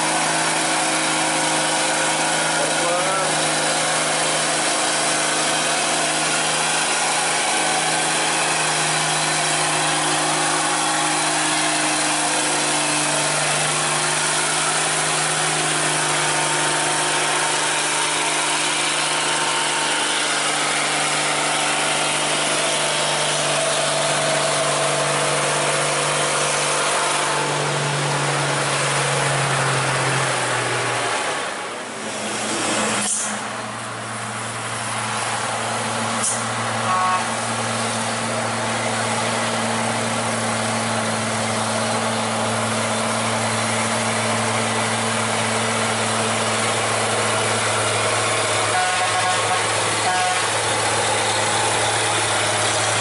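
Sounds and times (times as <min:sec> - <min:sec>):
truck diesel engine droning: 0:00.0 - 0:53.0.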